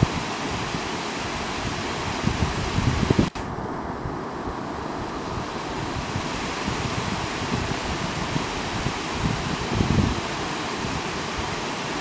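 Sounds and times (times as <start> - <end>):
river rushing over cascade: 0.0 - 12.0.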